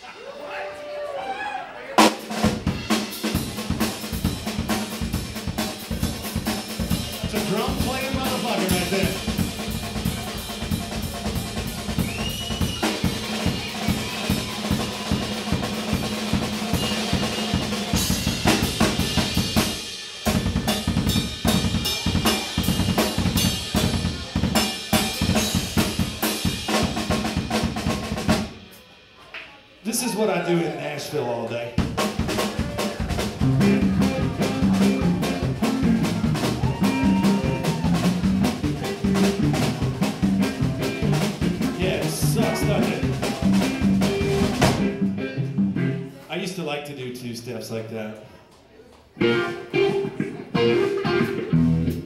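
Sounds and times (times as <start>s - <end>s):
funk band playing: 2.0s - 29.2s, 31.8s - 46.3s, 49.2s - 52.0s.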